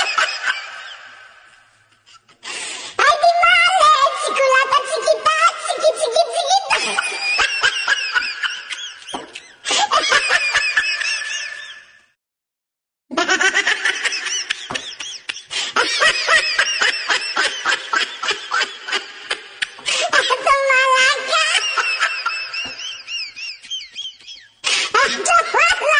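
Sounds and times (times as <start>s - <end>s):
recorded laughter: 0.0s - 2.4s, 6.3s - 12.0s, 13.1s - 25.9s.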